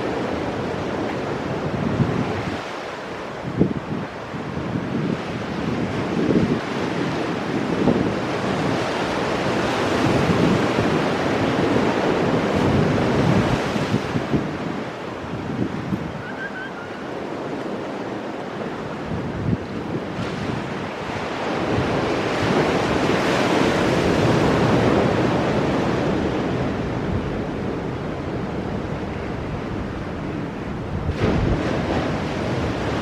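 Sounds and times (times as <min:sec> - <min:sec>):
ocean surf breaking on rocks: 0:00.0 - 0:33.0.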